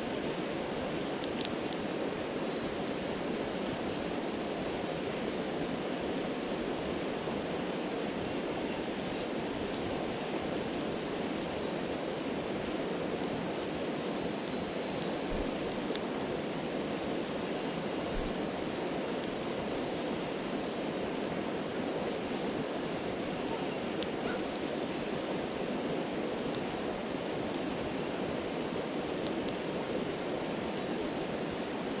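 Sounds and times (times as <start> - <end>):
campfire crackling and popping: 0.0 - 32.0
stream rushing: 0.0 - 32.0.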